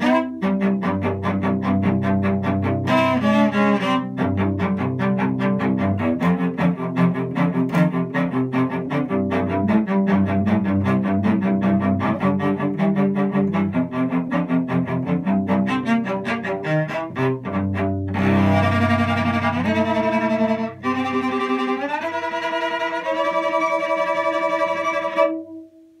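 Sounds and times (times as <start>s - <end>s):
bowed cello: 0.0s - 25.7s.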